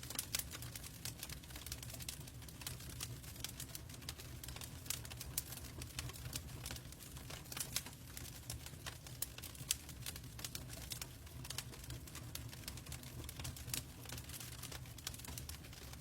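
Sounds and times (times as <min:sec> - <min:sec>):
fire crackling and popping: 0:00.0 - 0:16.0
low rumble of burning: 0:00.0 - 0:16.0.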